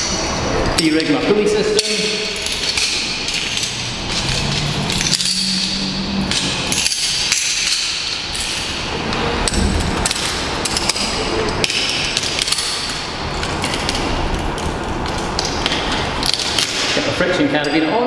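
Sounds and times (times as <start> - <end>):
carabiners and pulley clinking: 1.7 - 16.9.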